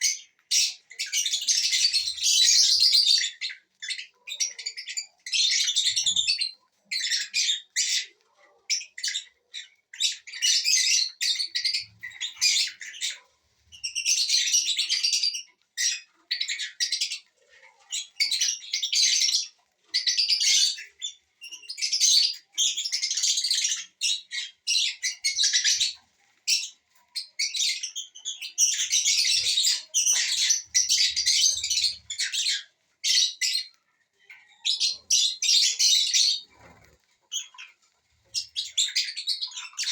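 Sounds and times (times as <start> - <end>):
small parrots chattering and squawking: 0.0 - 39.9.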